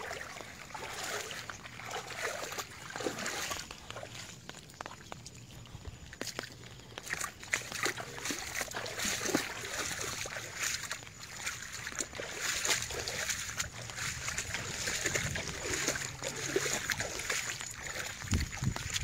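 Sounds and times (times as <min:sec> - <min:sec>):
wading through floodwater: 0:00.0 - 0:19.0.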